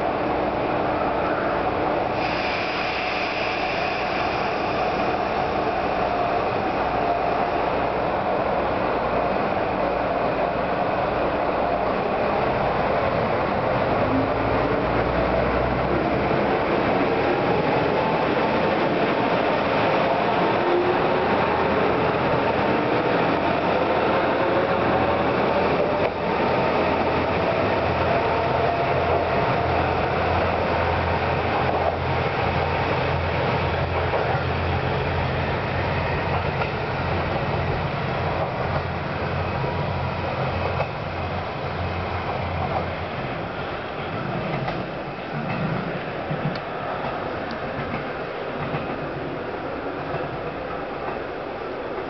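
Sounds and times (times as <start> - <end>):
railcar engine whine rising: 0.0 - 52.0.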